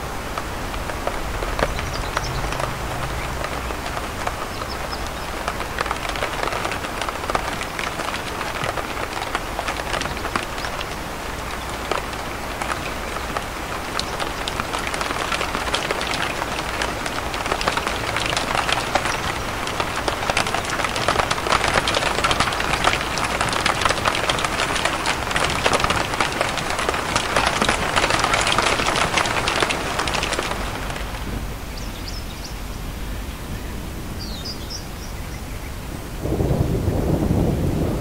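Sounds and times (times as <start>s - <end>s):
steady rain pattering: 0.0s - 38.0s.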